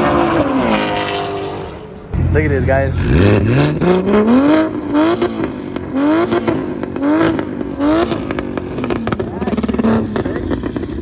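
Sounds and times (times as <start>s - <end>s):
car engine revving: 0.0s - 11.0s
exhaust crackling pops: 2.2s - 11.0s.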